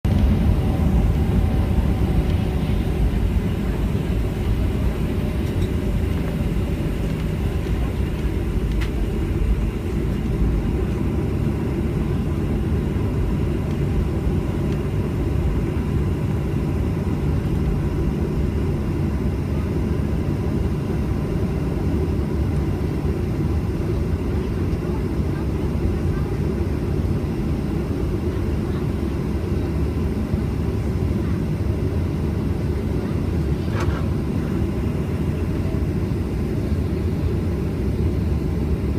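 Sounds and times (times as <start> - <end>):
jet engines and airflow rumble: 0.0 - 38.9.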